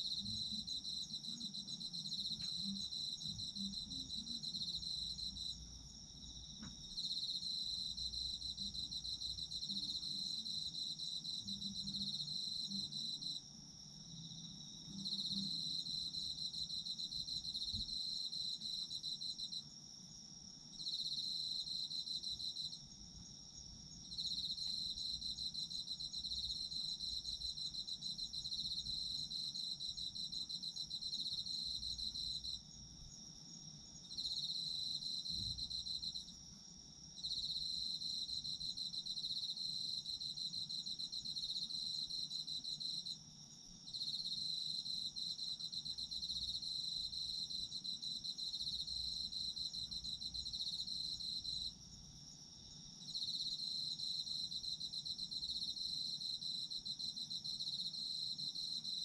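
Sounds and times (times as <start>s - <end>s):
cricket pulsing trill: 0.0s - 59.0s.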